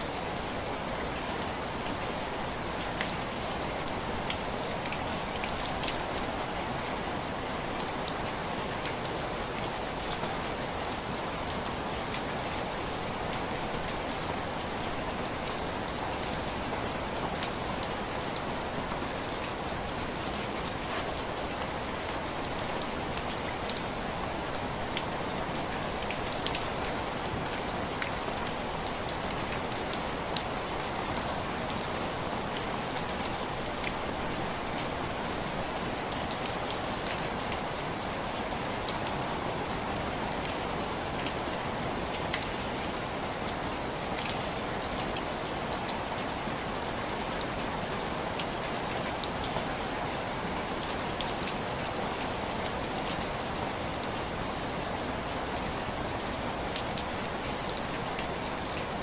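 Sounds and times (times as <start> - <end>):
rain on window glass: 0.1 - 59.0.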